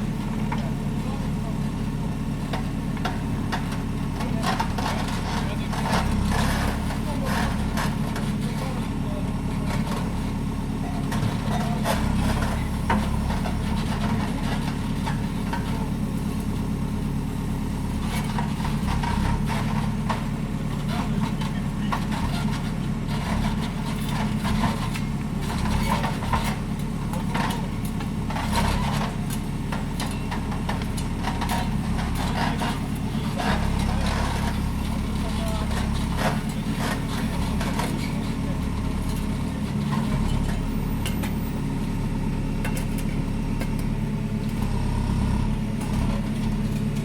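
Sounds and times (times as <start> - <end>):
loader engine running: 0.0 - 47.0.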